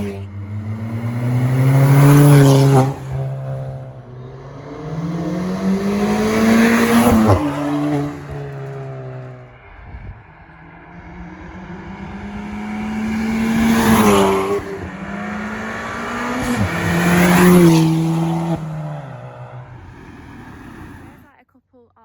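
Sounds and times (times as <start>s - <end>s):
car engine accelerating: 0.0s - 21.3s.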